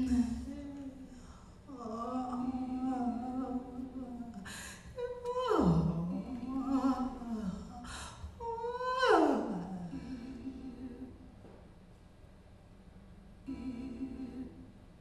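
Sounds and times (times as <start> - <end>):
woman singing wordlessly: 0.0 - 11.2, 13.5 - 14.7.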